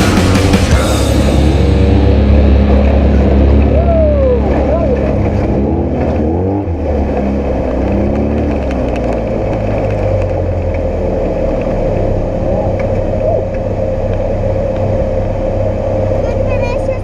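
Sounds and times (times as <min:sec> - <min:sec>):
low rumble: 0:00.0 - 0:17.0
race engine revving: 0:00.0 - 0:17.0.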